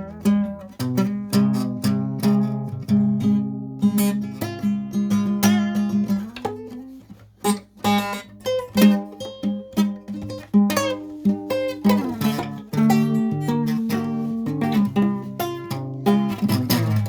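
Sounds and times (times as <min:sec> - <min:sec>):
out of tune acoustic guitar: 0:00.0 - 0:17.0.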